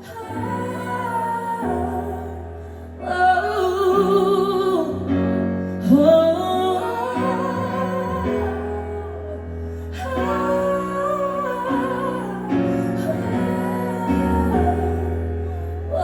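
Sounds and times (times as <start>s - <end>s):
woman singing pop ballad: 0.0s - 16.0s.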